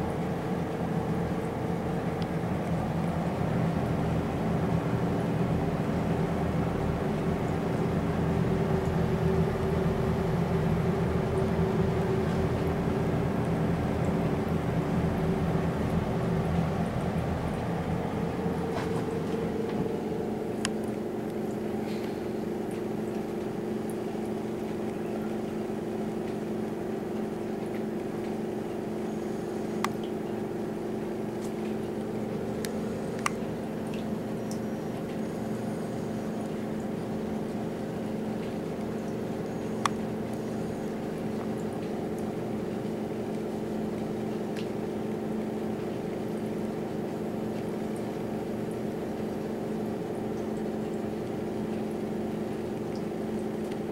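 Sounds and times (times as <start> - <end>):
fan motor humming: 0.0 - 53.9.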